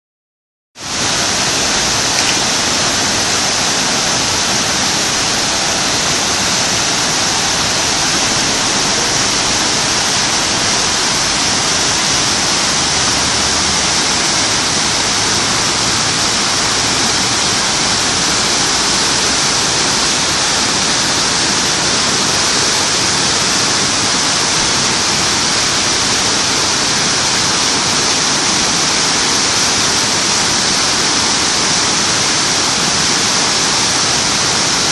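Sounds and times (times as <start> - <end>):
waterfall rushing: 0.8 - 34.9.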